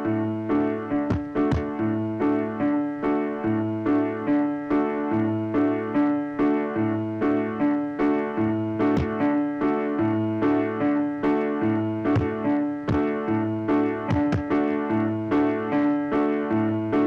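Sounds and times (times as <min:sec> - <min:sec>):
looping piano-like notes: 0:00.0 - 0:17.0.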